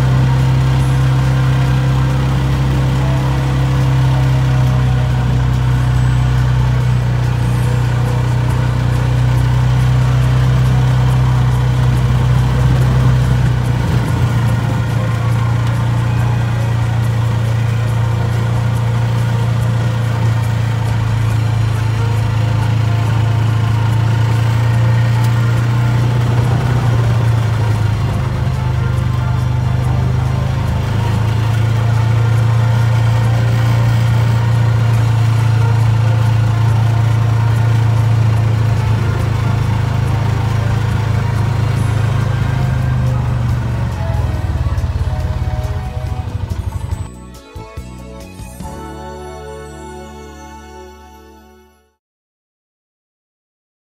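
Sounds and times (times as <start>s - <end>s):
off-road vehicle engine droning: 0.0s - 50.4s.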